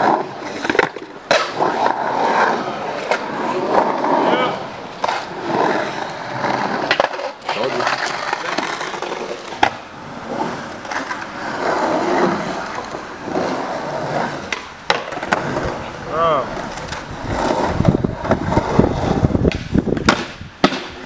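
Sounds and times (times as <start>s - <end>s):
skateboard clacks: 0.0s - 21.0s
skateboard wheels rolling on concrete: 0.0s - 21.0s.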